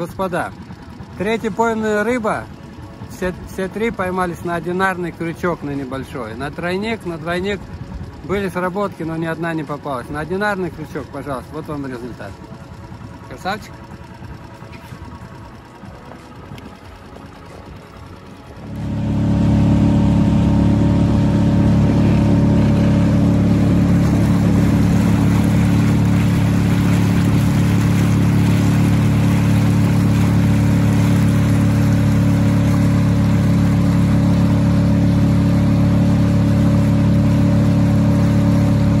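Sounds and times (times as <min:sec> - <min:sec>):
outboard motor droning: 0:00.0 - 0:39.0.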